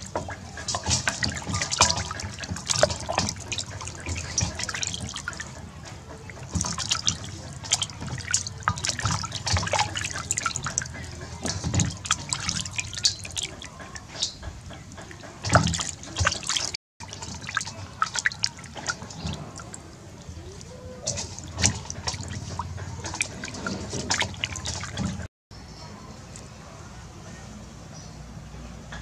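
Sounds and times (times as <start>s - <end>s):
water splashing in metal basin: 0.0s - 25.3s.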